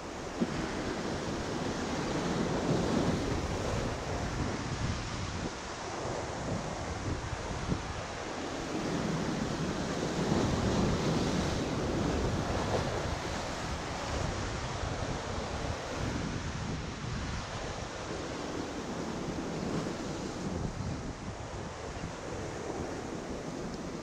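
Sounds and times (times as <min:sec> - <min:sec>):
surf washing over rocks: 0:00.0 - 0:24.0
wind buffeting microphone: 0:00.0 - 0:24.0.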